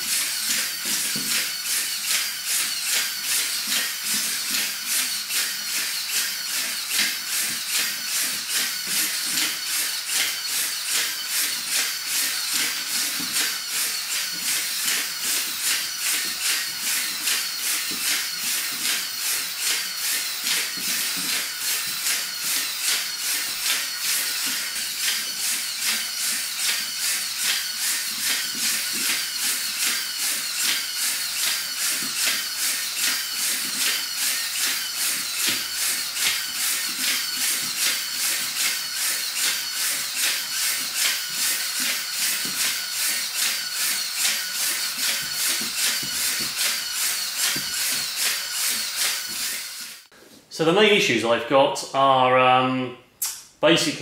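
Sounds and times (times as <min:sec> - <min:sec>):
robot servos buzzing: 0:00.0 - 0:50.1.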